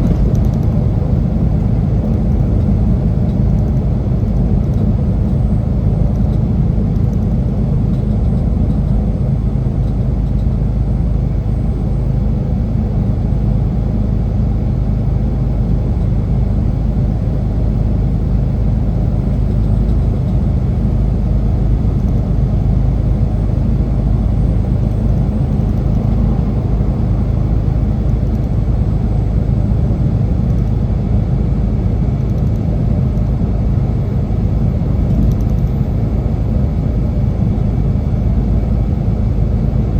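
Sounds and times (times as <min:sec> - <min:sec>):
truck diesel engine and road noise: 0:00.0 - 0:39.9.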